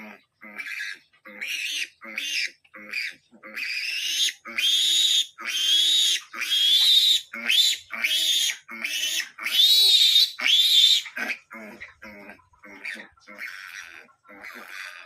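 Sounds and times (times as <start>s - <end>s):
piglet squealing: 0.0s - 15.0s.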